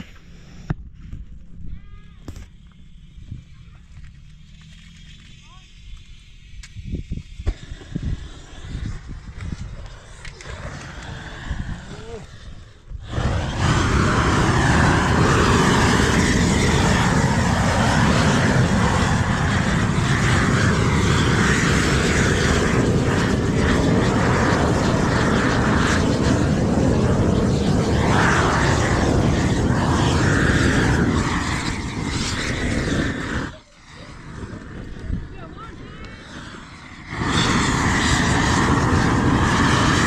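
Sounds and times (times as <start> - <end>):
gas torch roaring: 2.3 - 40.0.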